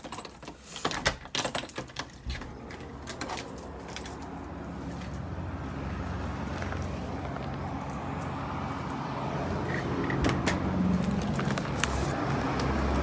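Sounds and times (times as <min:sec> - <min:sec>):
keys and bags rattling: 0:00.0 - 0:11.8.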